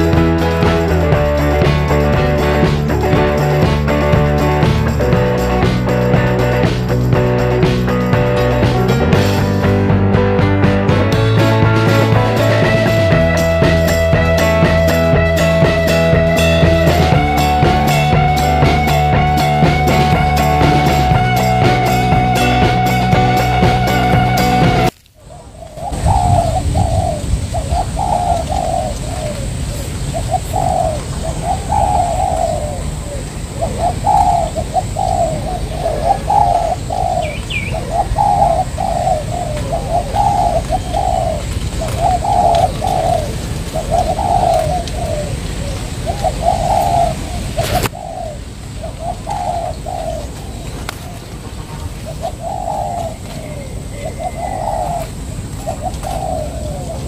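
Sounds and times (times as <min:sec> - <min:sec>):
doves cooing: 0:00.0 - 0:57.0
steady low rumble: 0:00.0 - 0:57.0.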